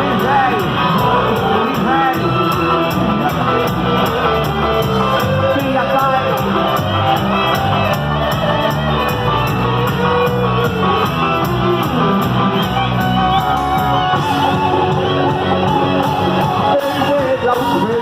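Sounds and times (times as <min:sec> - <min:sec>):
instrumental dance band music: 0:00.0 - 0:18.0.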